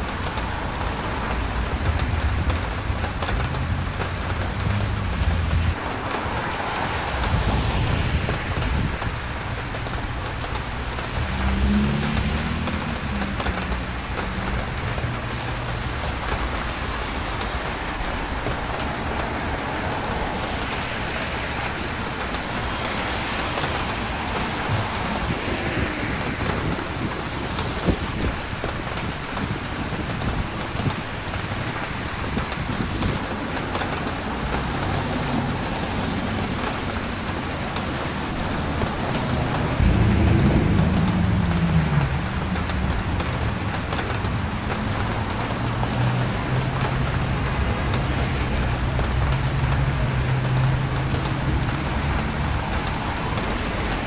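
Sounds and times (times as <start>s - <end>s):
passing traffic rumble: 0.0s - 54.0s
rain hissing: 0.0s - 54.0s
tyres on wet pavement: 0.0s - 54.0s.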